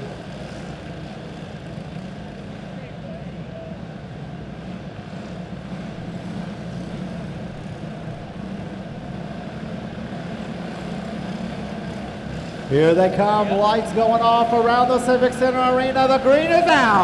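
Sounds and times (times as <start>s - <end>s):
go-kart engines droning: 0.0s - 17.0s.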